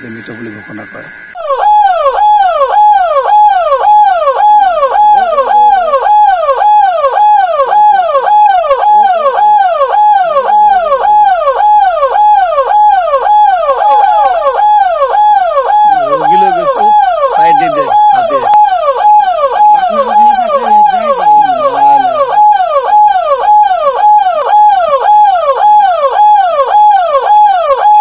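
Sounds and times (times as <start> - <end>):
ambulance siren wailing: 0.0 - 28.0.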